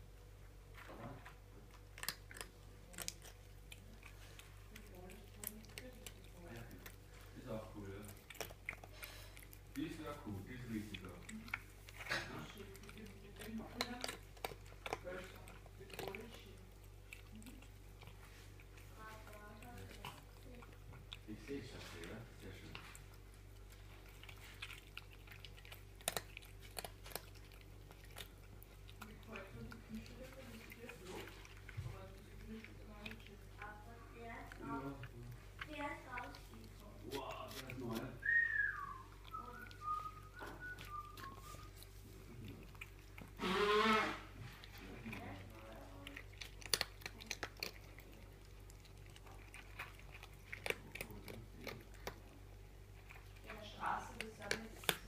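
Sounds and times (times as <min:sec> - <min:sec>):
cats chewing food: 0:00.0 - 0:55.0.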